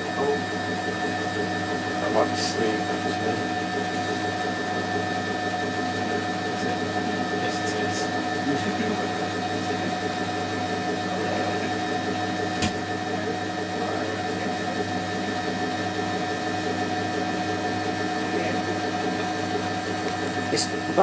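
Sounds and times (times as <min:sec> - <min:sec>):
washing machine spinning: 0:00.0 - 0:21.0.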